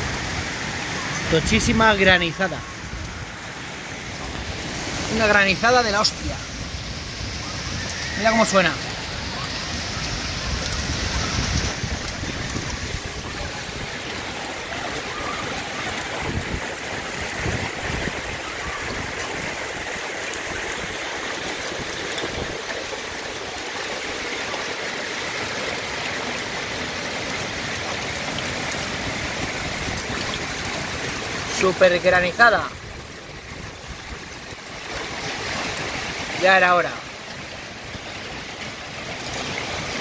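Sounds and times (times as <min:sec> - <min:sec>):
hail and rain falling hard: 0:00.0 - 0:40.0.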